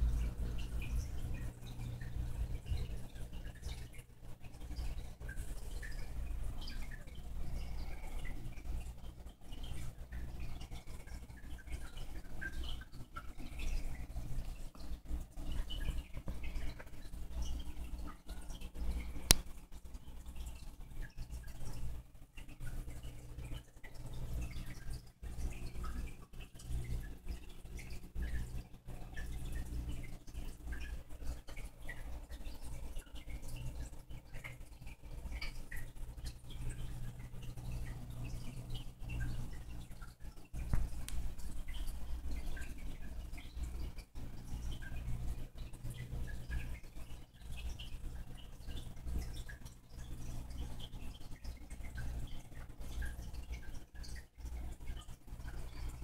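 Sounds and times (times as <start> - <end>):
low steady hum: 0.0 - 56.0
water trickling and dripping: 0.0 - 56.0.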